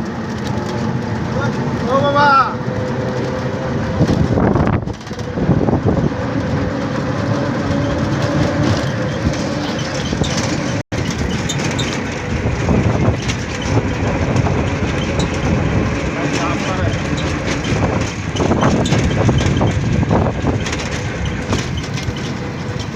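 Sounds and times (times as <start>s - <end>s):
moving vehicle rumbling: 0.0s - 22.9s.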